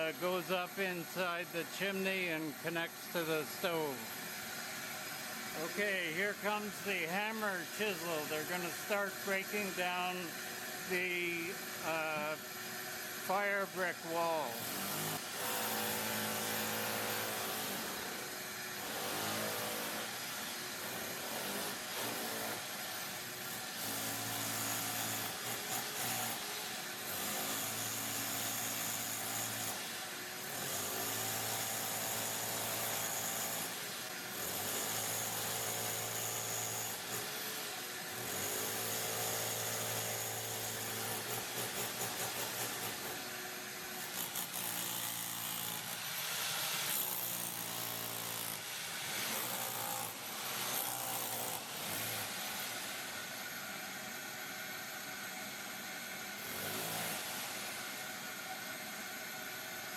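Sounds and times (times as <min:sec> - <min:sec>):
electric hammer chisel chiselling brick: 0:00.0 - 0:59.9.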